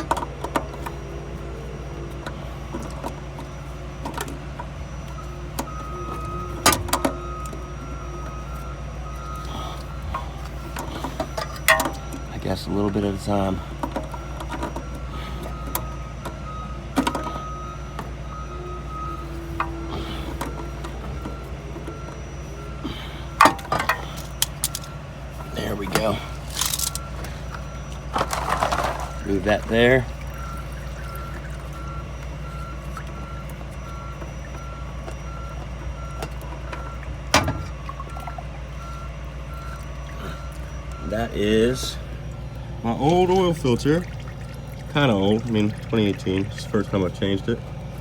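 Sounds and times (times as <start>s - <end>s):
reversing alarm beeping: 0.0s - 48.0s
steady low hum: 0.0s - 48.0s
oil filter clicks and squeaks: 1.8s - 18.2s, 18.9s - 48.0s.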